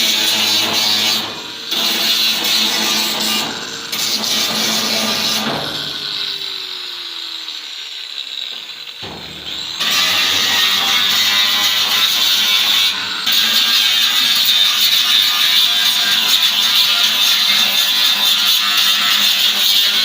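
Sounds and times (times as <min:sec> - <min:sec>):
power tool whining on metal: 0:00.0 - 0:20.0.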